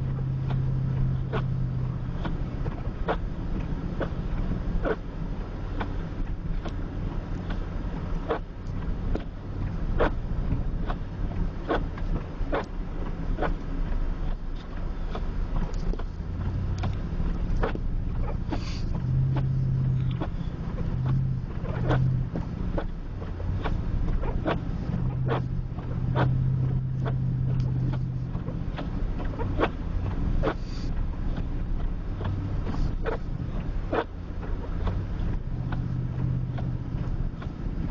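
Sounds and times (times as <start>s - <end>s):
truck engine and tyres rumbling: 0.0s - 37.9s.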